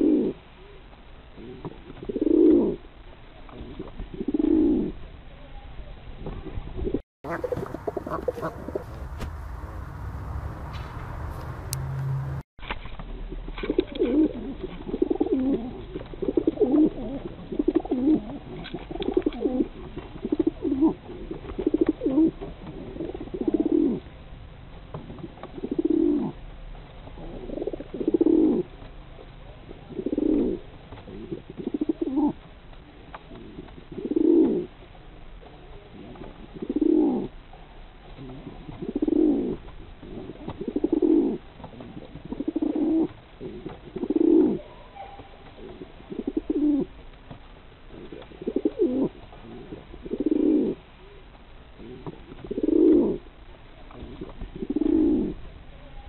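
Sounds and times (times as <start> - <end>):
pigeons cooing: 0.0 - 0.8, 1.4 - 5.1, 6.3 - 9.2, 13.2 - 24.3, 24.9 - 47.0, 47.9 - 51.2, 51.8 - 56.0.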